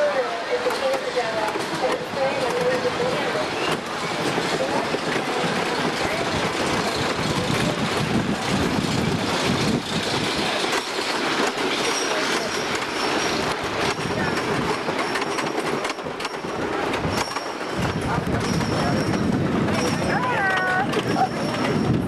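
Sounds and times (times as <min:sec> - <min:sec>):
roller coaster chain lift clatter: 0:00.0 - 0:22.0.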